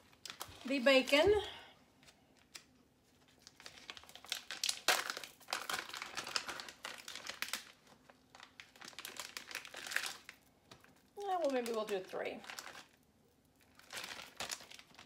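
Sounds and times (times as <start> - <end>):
plastic package crinkling: 0.0 - 15.0.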